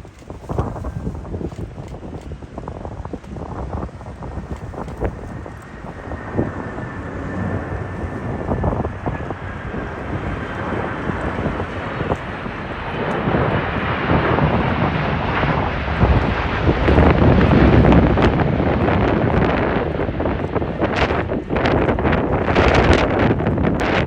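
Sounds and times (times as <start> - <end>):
jet engine roar: 0.0 - 24.0
wind buffeting microphone: 0.0 - 24.0.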